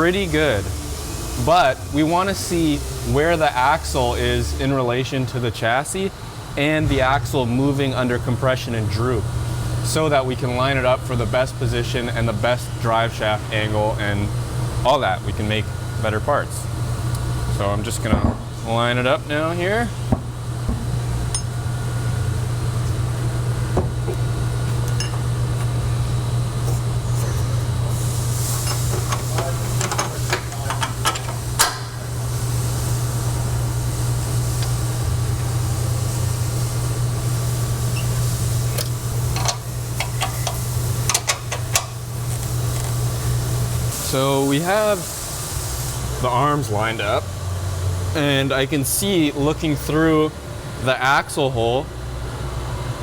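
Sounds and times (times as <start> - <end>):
shop equipment humming: 0.0 - 53.0.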